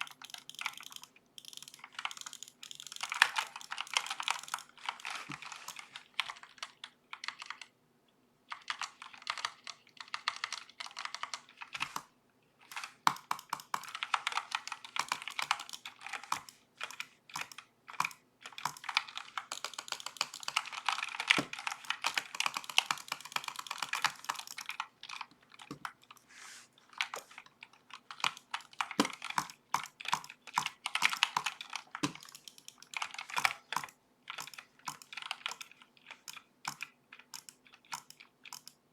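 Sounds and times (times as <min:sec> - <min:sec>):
mechanical keyboard typing: 0:00.0 - 0:07.8, 0:08.5 - 0:12.1, 0:12.7 - 0:26.3, 0:26.9 - 0:38.9.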